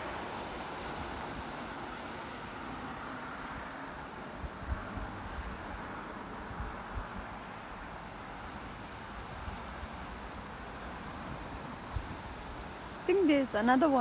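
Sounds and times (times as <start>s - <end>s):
outdoor rushing noise: 0.0s - 13.1s
wind buffeting microphone: 0.0s - 14.0s.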